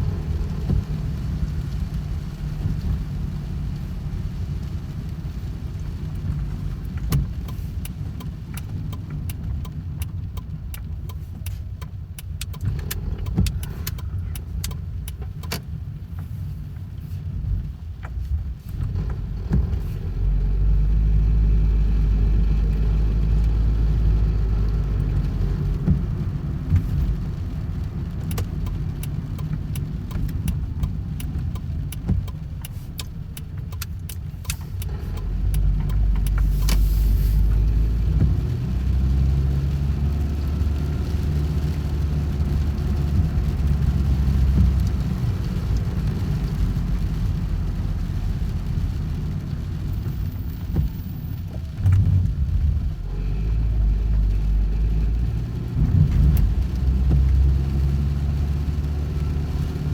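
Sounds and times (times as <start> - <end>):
low vehicle rumble: 0.0 - 59.9
rain drops ticking: 0.0 - 59.9.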